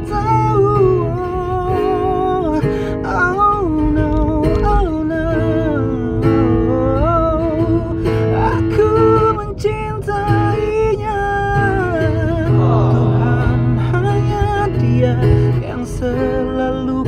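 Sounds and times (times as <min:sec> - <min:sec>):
acoustic guitar: 0:00.0 - 0:17.0
man singing a pop ballad: 0:00.0 - 0:17.0.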